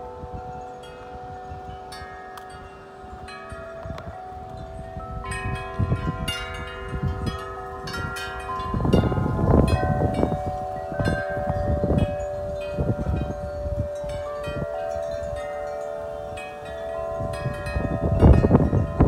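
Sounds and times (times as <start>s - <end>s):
low rumble of wind: 0.0s - 19.0s
wind chimes ringing: 0.0s - 19.0s.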